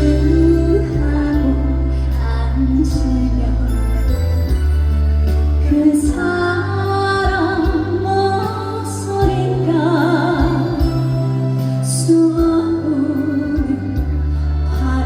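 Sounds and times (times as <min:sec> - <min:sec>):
band accompaniment with bass line: 0:00.0 - 0:15.0
woman singing a slow ballad: 0:00.0 - 0:15.0.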